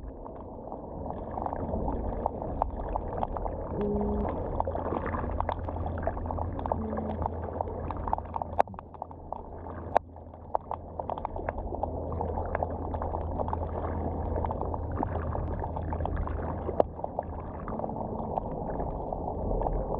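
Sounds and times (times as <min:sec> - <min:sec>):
low underwater hum: 0:00.0 - 0:19.9.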